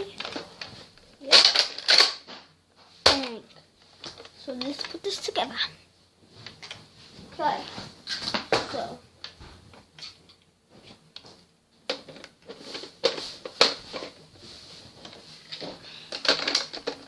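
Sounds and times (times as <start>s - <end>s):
plastic handling noise: 0.0s - 5.4s, 6.3s - 17.0s.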